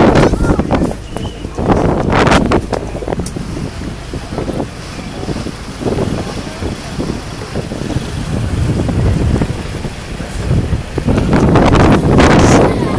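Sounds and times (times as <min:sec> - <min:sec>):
ferry engine rumble: 0:00.0 - 0:12.9
water rushing along hull: 0:00.0 - 0:12.9
wind buffeting microphone: 0:00.0 - 0:12.9.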